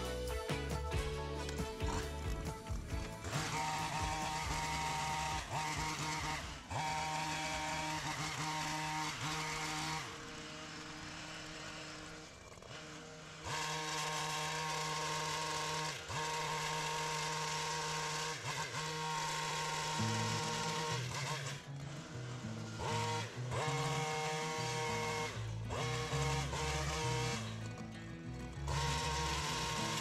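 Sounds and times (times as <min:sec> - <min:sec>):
hedge trimmer running: 0:00.0 - 0:30.0.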